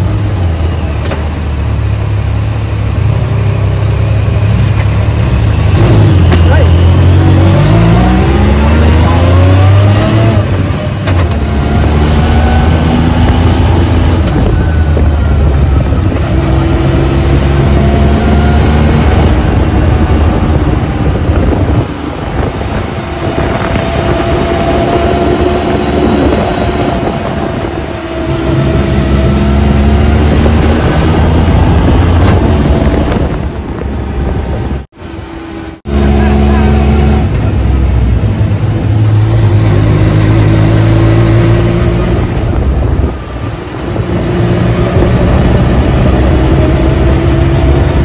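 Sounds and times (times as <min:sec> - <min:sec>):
tyres on dirt trail: 0:00.0 - 0:48.0
engine revving under throttle: 0:04.2 - 0:34.9, 0:35.6 - 0:48.0.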